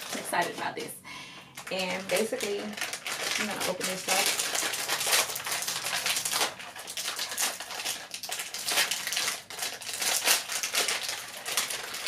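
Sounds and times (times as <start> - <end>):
plastic wrapper tearing and crumpling: 0.0 - 12.0.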